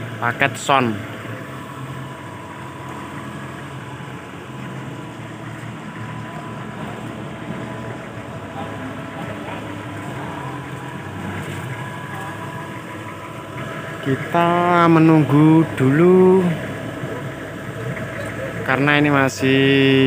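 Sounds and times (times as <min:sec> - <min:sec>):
engine idling: 0:00.0 - 0:20.0
faint steady whine: 0:00.0 - 0:20.0.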